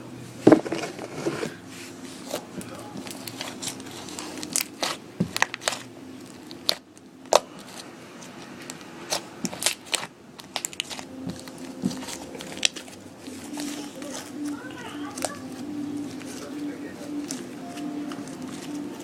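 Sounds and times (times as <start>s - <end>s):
slime clicking and crackling: 2.2s - 19.0s.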